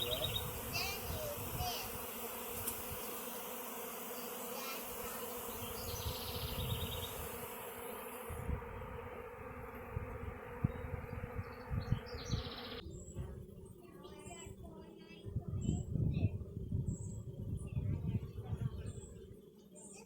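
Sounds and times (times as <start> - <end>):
bee swarm buzzing: 0.0 - 20.0.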